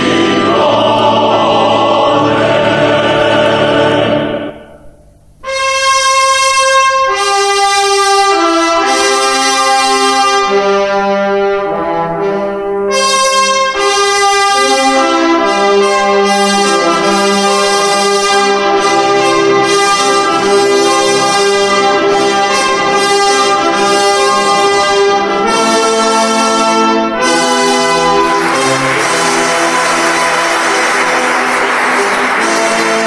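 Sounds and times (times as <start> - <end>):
brass music held chords: 0.0 - 33.0.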